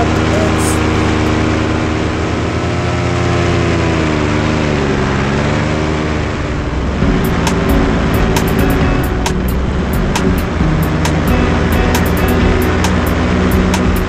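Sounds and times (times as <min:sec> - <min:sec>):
propeller engine running: 0:00.0 - 0:14.0.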